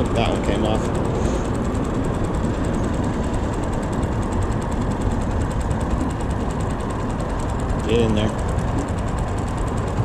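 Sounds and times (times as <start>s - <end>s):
boat motor running: 0.0s - 10.0s.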